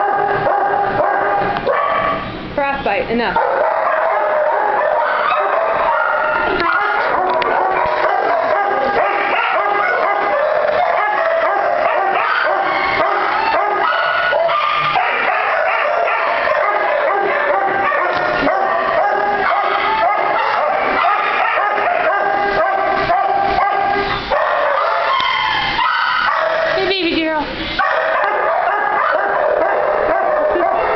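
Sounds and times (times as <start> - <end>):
many dogs barking and howling: 0.0 - 2.2, 3.4 - 26.8, 27.8 - 30.9.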